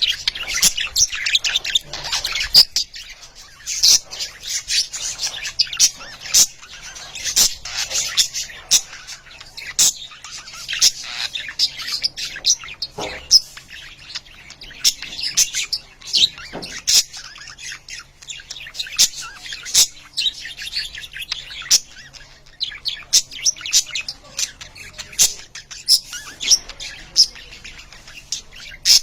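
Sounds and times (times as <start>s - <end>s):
budgerigars chirping: 0.0s - 29.0s.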